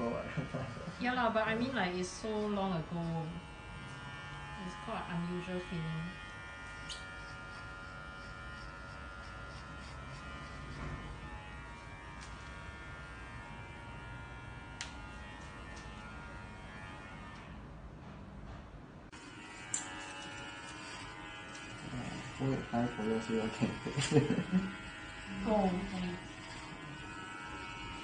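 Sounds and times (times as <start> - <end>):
hair clipper buzzing: 0.3 - 17.6, 19.1 - 28.0.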